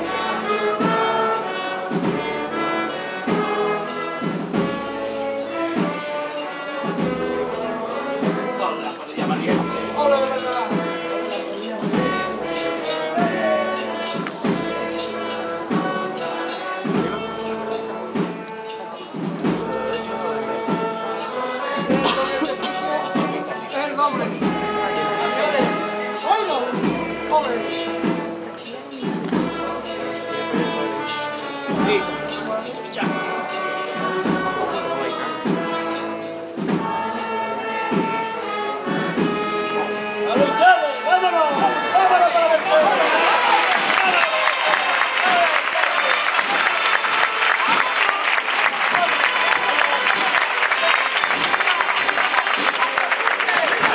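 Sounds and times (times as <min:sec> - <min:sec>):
brass chords: 0:00.0 - 0:53.9
drum beat: 0:00.0 - 0:53.9
slow band processional march: 0:00.0 - 0:53.9.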